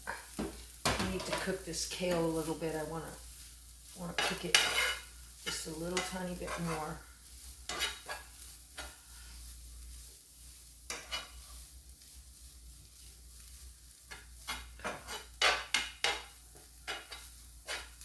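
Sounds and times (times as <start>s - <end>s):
faint sizzle: 0.0s - 18.0s
utensil scraping in frying pan: 0.0s - 18.0s.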